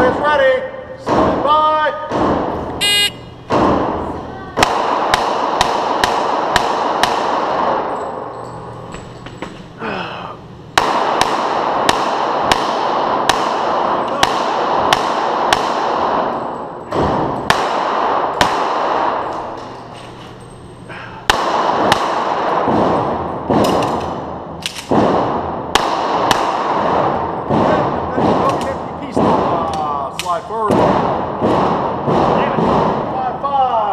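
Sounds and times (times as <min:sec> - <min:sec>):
pistol shots echoing indoors: 0:02.0 - 0:09.4, 0:10.7 - 0:20.2, 0:21.2 - 0:33.4.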